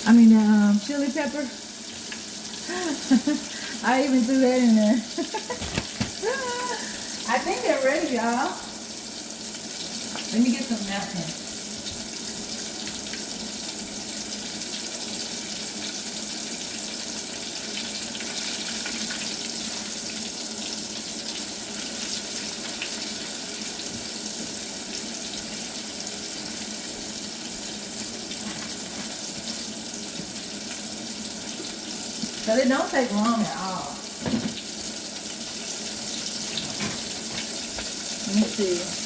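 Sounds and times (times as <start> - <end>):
battered food frying in oil: 0.0 - 39.0.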